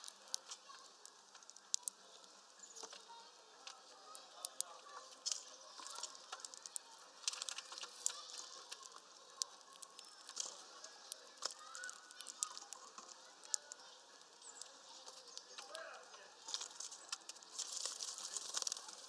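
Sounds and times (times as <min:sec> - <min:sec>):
birds cracking seeds: 0:00.0 - 0:19.0.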